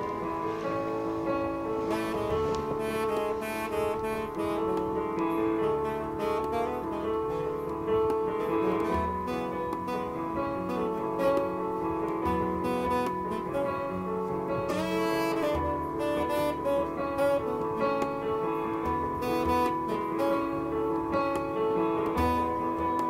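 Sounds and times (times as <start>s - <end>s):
keyboard chords: 0.0s - 23.0s.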